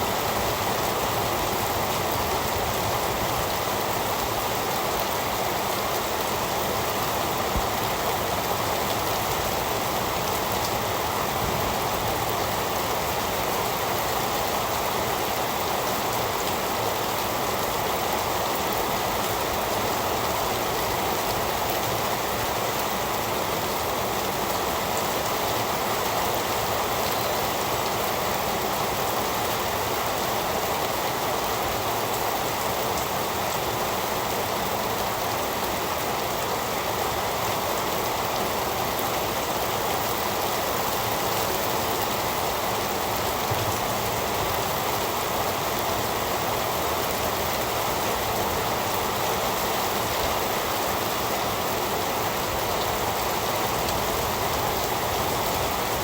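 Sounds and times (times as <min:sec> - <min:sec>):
heavy rain on surfaces: 0:00.0 - 0:56.0.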